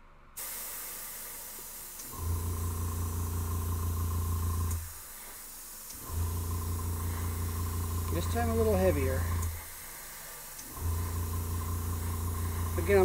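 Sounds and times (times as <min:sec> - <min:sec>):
airbrush spraying hiss: 0:00.4 - 0:03.6, 0:04.7 - 0:13.0
air compressor motor humming: 0:01.3 - 0:13.0.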